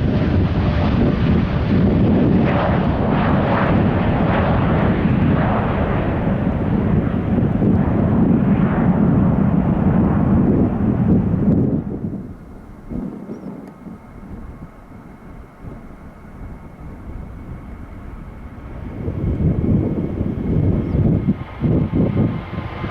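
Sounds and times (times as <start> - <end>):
jet engines at take-off power: 0.0 - 22.9.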